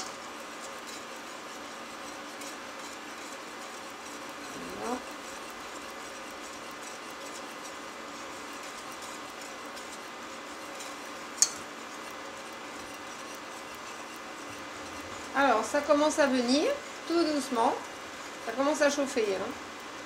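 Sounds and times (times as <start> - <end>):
induction hob hum: 0.0 - 20.0
whisk stirring in saucepan: 0.0 - 20.0
whisk tapping pan: 0.0 - 20.0.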